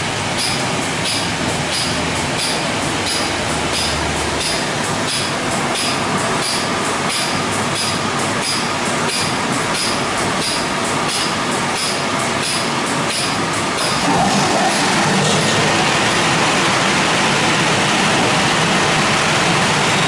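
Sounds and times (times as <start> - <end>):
spinning brushes and water: 0.0 - 20.0.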